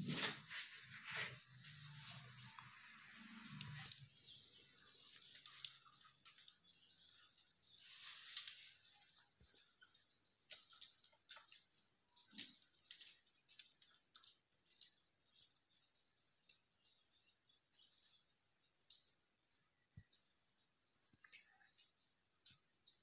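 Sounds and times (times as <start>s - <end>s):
wood fire crackling: 0.0s - 20.4s.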